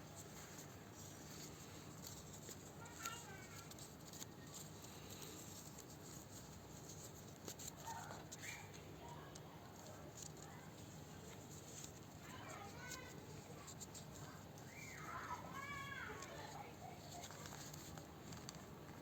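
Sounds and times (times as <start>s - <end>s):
paper rustling and creasing: 0.0s - 19.0s.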